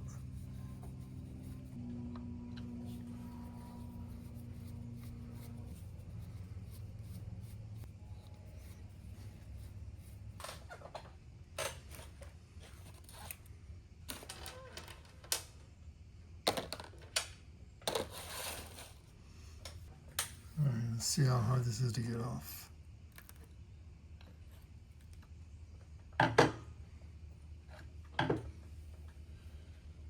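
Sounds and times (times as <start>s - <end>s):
low steady hum: 0.0s - 14.2s, 18.7s - 30.0s.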